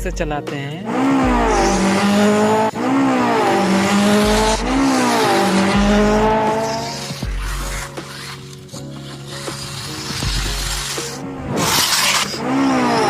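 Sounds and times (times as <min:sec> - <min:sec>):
motor revving: 0:00.8 - 0:13.0.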